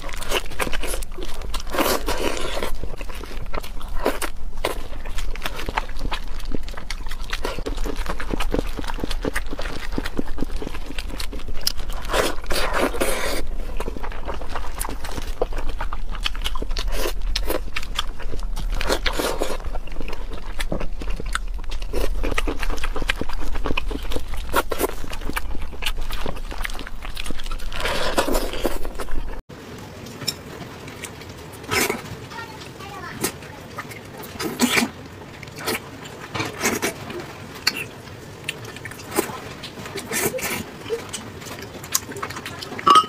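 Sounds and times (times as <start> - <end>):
meat crunching and crackling: 0.0 - 43.0
wet chewing and smacking: 0.0 - 43.0.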